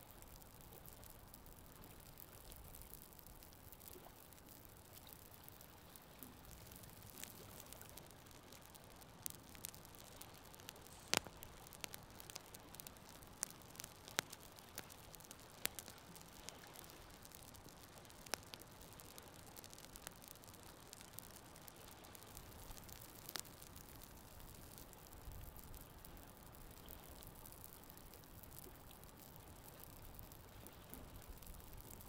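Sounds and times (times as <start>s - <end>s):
campfire crackling: 0.0s - 32.0s
faint steady hiss: 0.0s - 32.0s.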